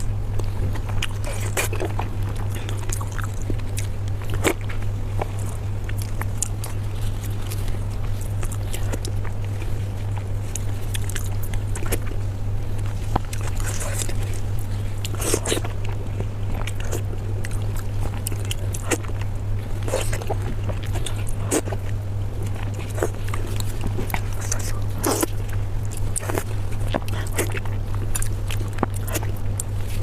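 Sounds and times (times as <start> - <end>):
chewing and mouth sounds: 0.0 - 30.0
low hum: 0.0 - 30.0.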